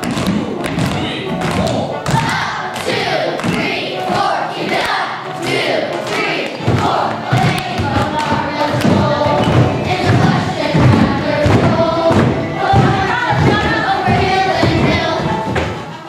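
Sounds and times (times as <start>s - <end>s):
heavy thudding beat: 0.0s - 16.0s
musical accompaniment: 0.0s - 16.0s
group singing a marching song: 1.4s - 16.0s.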